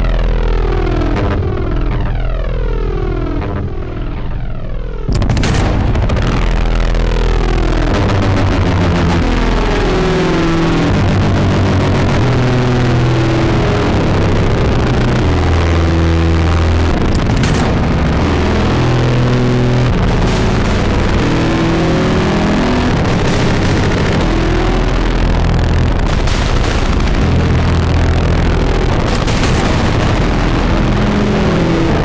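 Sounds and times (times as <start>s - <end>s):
industrial drone music: 0.0s - 32.0s.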